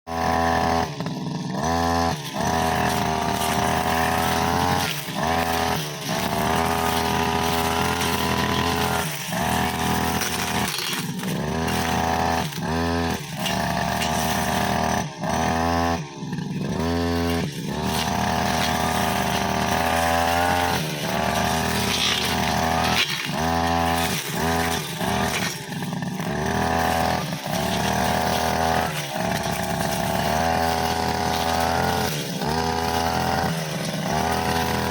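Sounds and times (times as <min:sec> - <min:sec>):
brushcutter engine cutting grass: 0:00.1 - 0:34.9.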